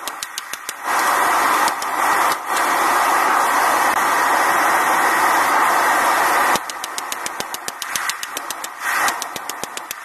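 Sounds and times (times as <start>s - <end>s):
forge rushing noise: 0.0s - 10.0s.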